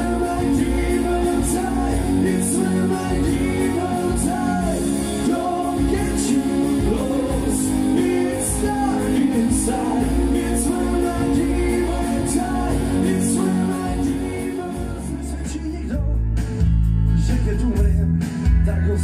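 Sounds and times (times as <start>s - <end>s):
two men singing: 0.0s - 16.2s
electric guitar: 0.0s - 19.0s.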